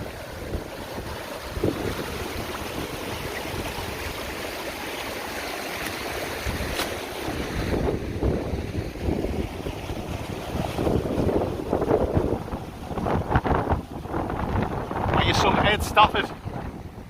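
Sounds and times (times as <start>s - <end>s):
wind blowing across microphone: 0.0s - 4.6s, 5.8s - 17.0s.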